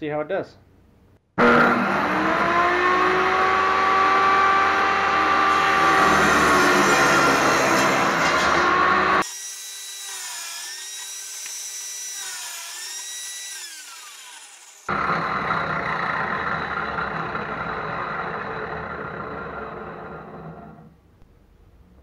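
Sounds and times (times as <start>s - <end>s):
saw motor whining: 1.4s - 20.9s
table saw cutting wood: 1.4s - 20.9s.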